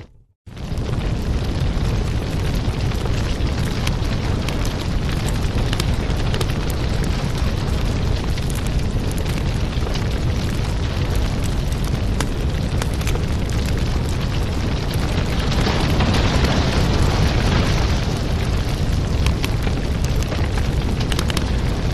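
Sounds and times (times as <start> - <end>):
fireplace fire crackling: 0.0 - 21.9.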